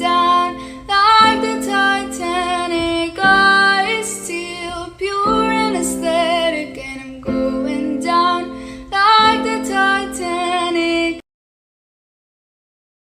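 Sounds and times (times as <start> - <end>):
person singing: 0.0 - 11.2.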